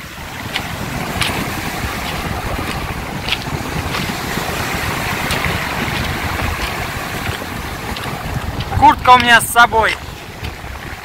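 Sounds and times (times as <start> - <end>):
surf breaking on pebble beach: 0.0 - 11.0
wind buffeting microphone: 0.0 - 11.0.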